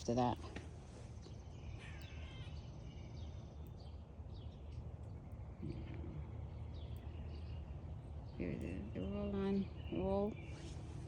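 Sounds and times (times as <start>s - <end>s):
birds chirping faintly: 0.0s - 11.0s
low background rumble: 0.0s - 11.0s.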